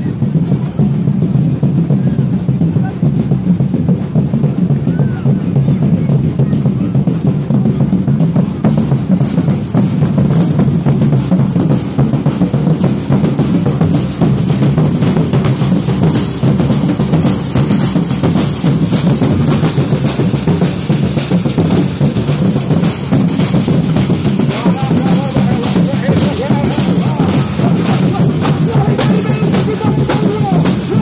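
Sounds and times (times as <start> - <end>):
percussion band drumming: 0.0 - 31.0.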